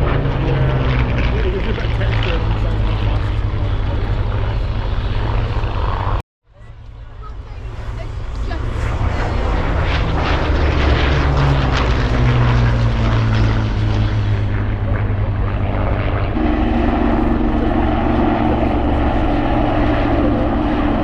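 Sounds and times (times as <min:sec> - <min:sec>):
aircraft engine drone overhead: 0:00.0 - 0:21.0.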